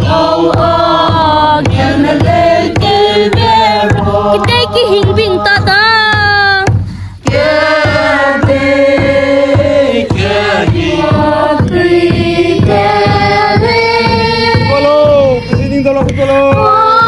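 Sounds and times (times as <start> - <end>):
song with sung vocals: 0.0 - 17.0
steady beat: 0.0 - 17.0.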